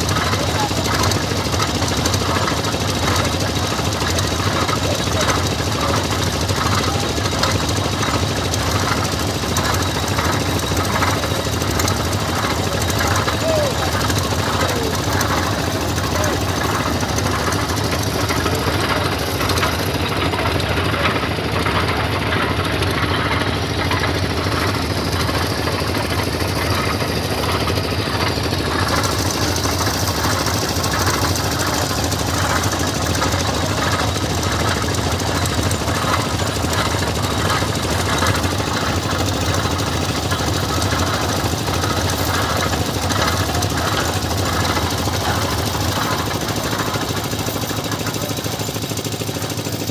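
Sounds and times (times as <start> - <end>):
engine running with rapid beat: 0.0 - 49.9.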